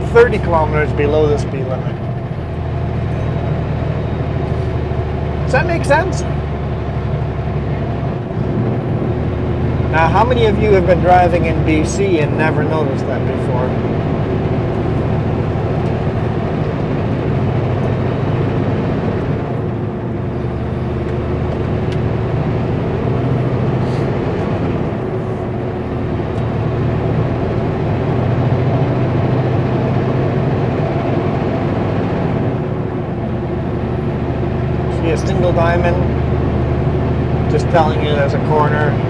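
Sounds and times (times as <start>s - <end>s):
road noise: 0.0s - 39.0s
truck diesel engine running: 0.0s - 39.0s.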